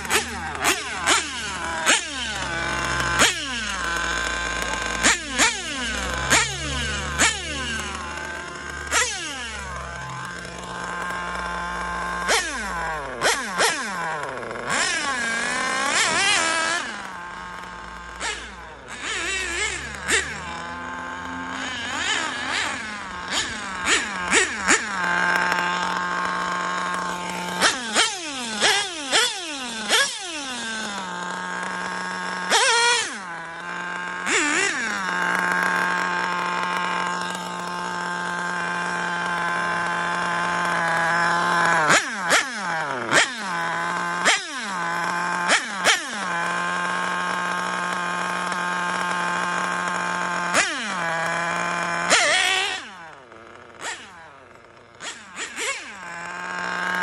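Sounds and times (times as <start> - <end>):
model car engine idling and revving: 0.0 - 57.0.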